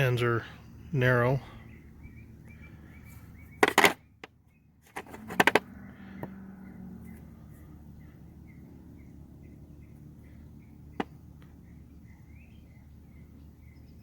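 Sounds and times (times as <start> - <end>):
bird chirping faintly: 0.0 - 4.9, 5.9 - 14.0.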